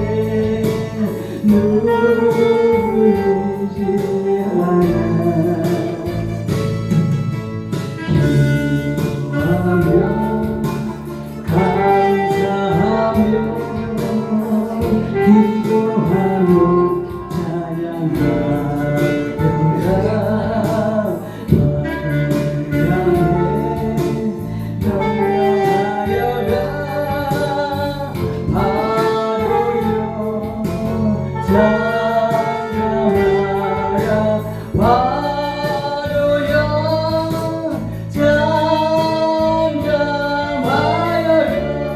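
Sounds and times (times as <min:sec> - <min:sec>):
gospel song with singing: 0:00.0 - 0:41.9.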